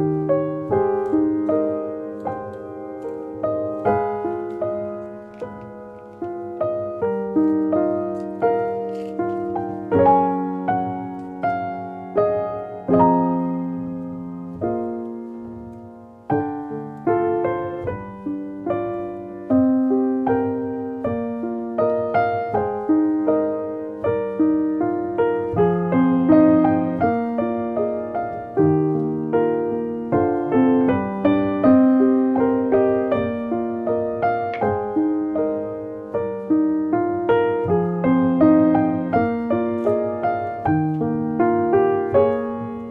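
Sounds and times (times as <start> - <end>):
gentle piano music: 0.0 - 42.9.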